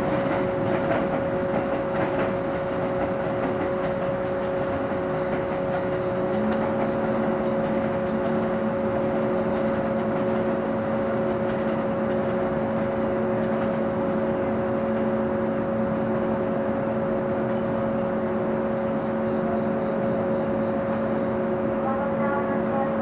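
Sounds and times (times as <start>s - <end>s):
electric train machinery humming: 0.0s - 23.0s.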